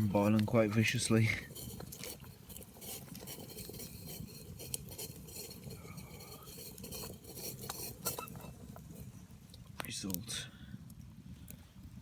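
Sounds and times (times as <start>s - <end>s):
water boiling in metal can: 0.0s - 12.0s.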